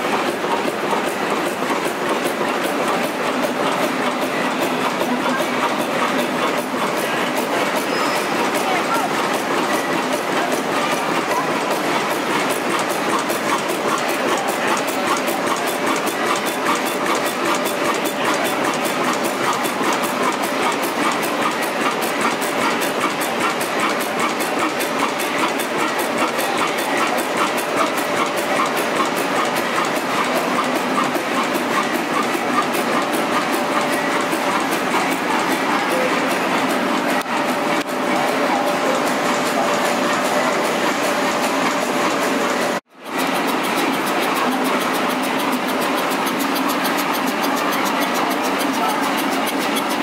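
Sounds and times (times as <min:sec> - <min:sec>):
stationary engine clattering: 0:00.0 - 0:50.0.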